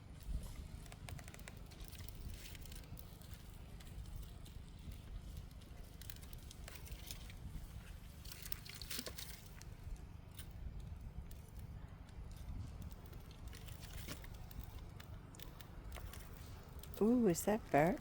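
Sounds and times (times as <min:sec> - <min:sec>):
small fire crackling: 0:00.0 - 0:18.0
sharp snaps of fire: 0:00.2 - 0:17.1.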